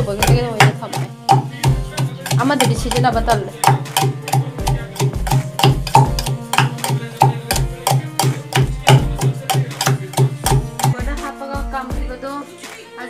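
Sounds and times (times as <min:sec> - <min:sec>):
background music with quick beat: 0:00.0 - 0:13.0.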